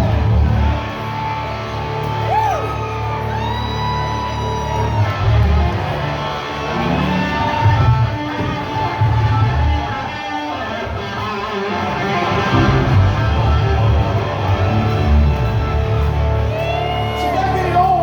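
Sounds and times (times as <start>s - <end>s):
heavy bass line: 0.0s - 2.4s, 4.4s - 18.0s
electric guitar lines: 0.0s - 18.0s.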